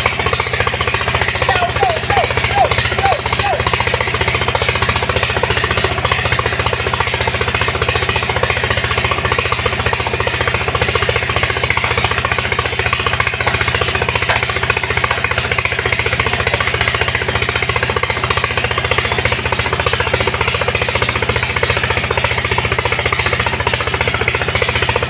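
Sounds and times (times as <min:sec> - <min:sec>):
pump engine running steadily: 0:00.0 - 0:25.0.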